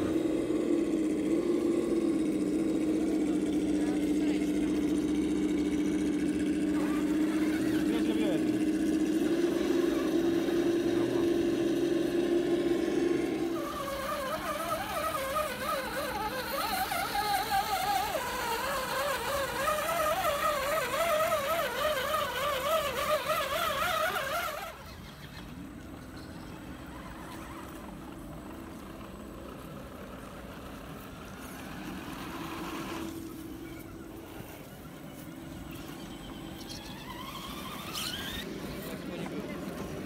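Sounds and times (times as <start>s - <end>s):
electric motor and gears whining: 0.0s - 40.0s.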